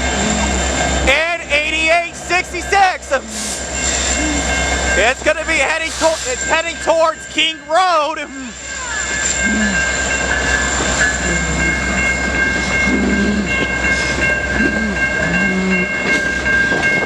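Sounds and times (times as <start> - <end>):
electronic crossing bell ringing: 0.0 - 17.0
freight train rumbling: 0.0 - 17.0.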